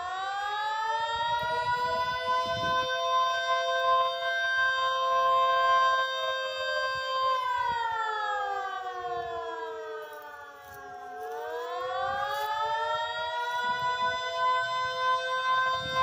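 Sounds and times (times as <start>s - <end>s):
wavering warning siren: 0.0s - 16.0s.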